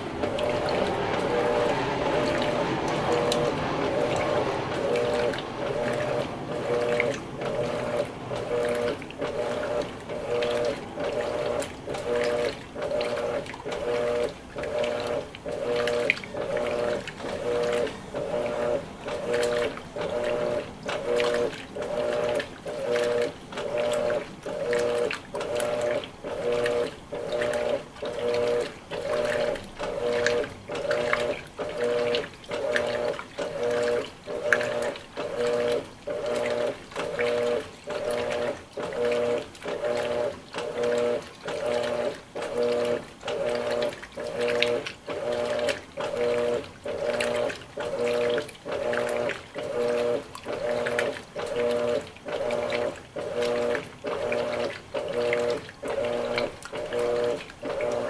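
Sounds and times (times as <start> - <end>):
washing machine motor humming: 0.0 - 58.0
water sloshing: 0.0 - 58.0.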